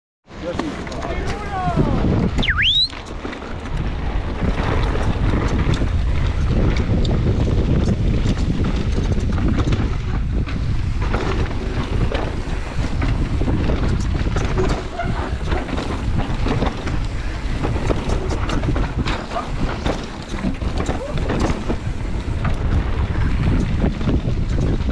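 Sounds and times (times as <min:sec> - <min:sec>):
bike clicks and rattles: 0:00.3 - 0:24.9
wind buffeting microphone: 0:01.1 - 0:24.9.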